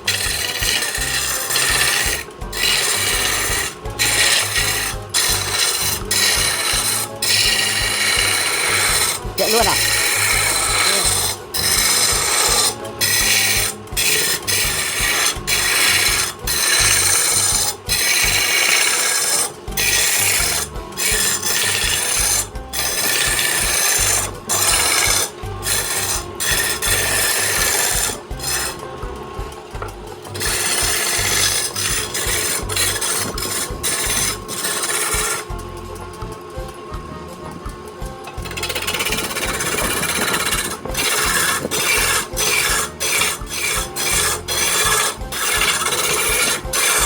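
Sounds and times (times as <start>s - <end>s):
lathe tool scraping wood: 0.0s - 47.0s.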